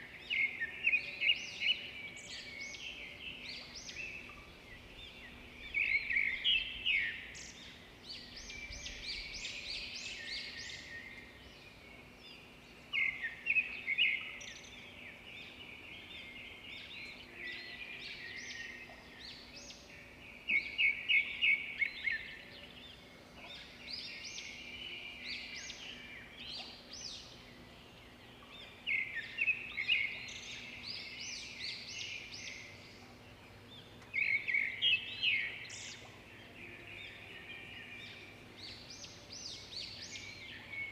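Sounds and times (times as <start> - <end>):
faint background hiss: 0.0 - 40.9
songbirds singing: 0.0 - 40.9.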